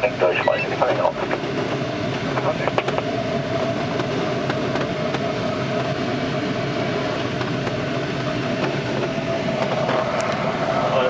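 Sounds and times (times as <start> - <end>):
airflow rushing around canopy: 0.0 - 11.0.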